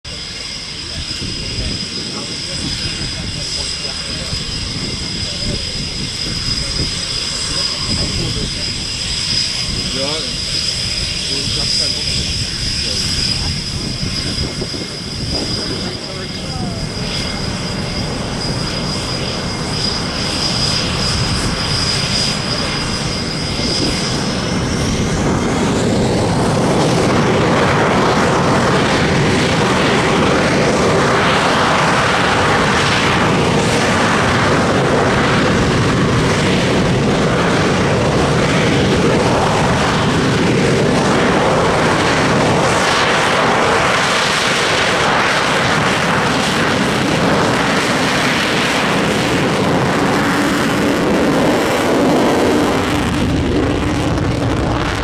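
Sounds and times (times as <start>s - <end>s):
jet engines spooling up: 0.1s - 55.0s.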